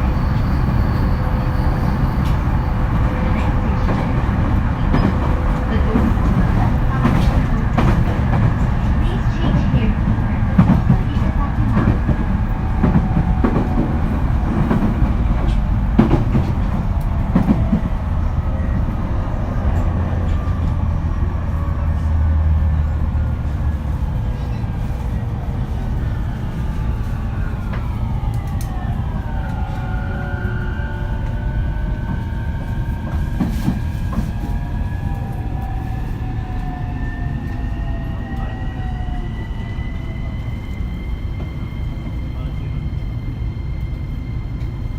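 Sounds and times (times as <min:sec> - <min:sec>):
train running rumble: 0:00.0 - 0:44.9.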